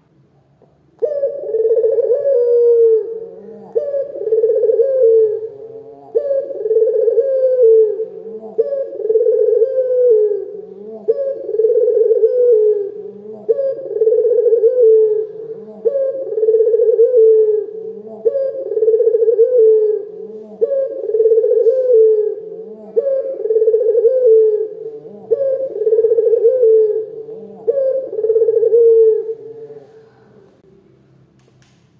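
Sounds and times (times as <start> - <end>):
dove cooing: 1.0 - 30.5.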